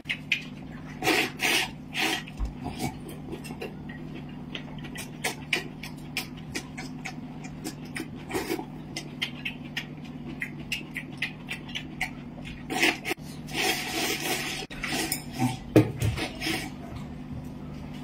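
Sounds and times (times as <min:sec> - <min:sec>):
wet chewing and slurping: 0:00.0 - 0:16.9.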